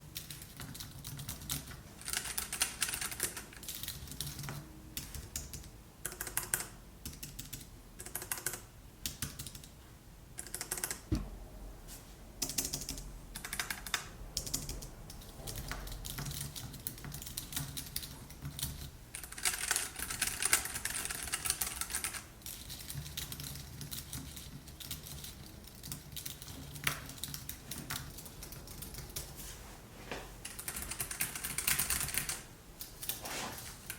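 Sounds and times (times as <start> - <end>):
keyboard typing: 0.1 - 9.8, 10.4 - 11.1, 12.4 - 29.3, 30.4 - 33.9.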